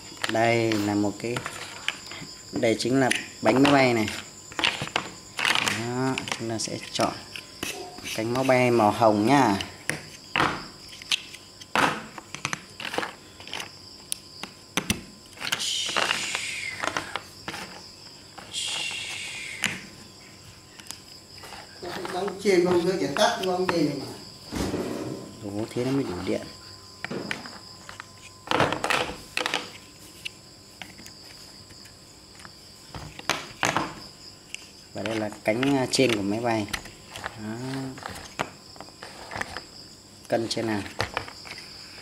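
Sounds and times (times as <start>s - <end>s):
steady high-pitched whine: 0.0s - 42.0s.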